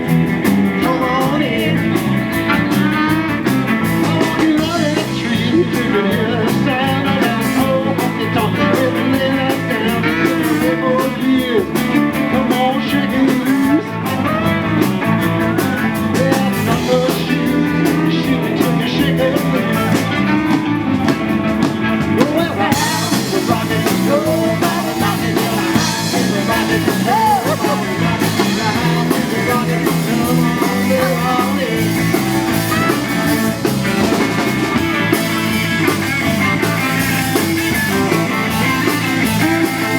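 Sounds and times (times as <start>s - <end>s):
guitar: 0.0s - 39.9s
live rock and roll band: 0.0s - 39.9s
person singing: 0.4s - 39.9s.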